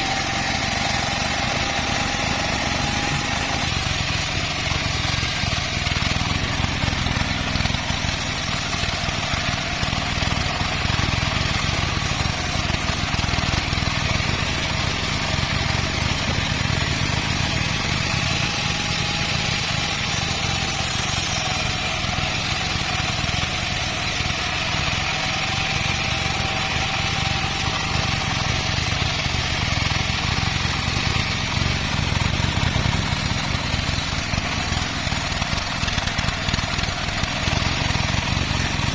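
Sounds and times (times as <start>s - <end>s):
band saw droning: 0.0s - 38.9s.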